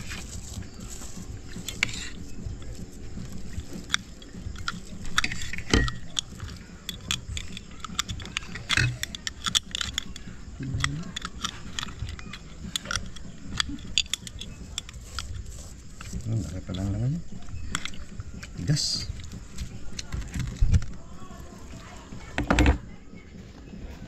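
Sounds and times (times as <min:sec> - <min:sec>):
metal utensil scraping snail shell: 0:00.0 - 0:22.7.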